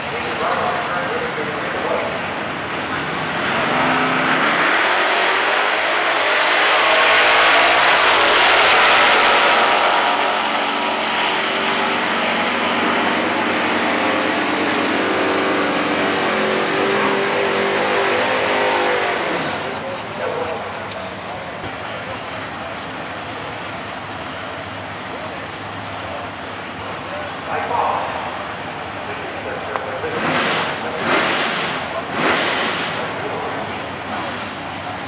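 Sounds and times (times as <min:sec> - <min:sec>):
drag car engines revving: 0:00.0 - 0:35.0.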